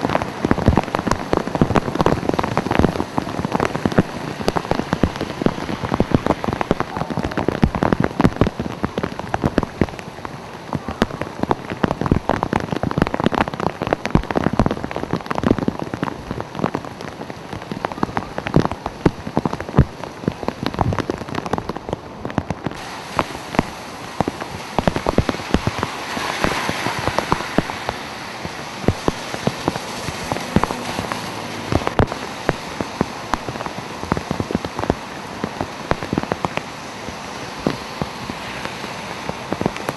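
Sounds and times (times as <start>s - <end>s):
rain drops pattering: 0.0s - 39.9s
smooth rain hiss: 0.0s - 39.9s.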